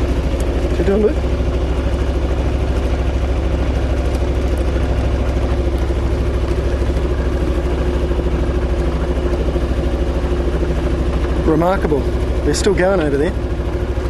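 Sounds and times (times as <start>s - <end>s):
boat engine throbbing: 0.0s - 14.0s.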